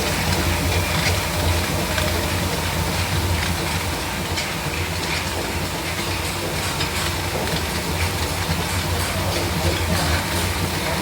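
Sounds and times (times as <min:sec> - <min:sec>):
mixer motor hum: 0:00.0 - 0:11.0.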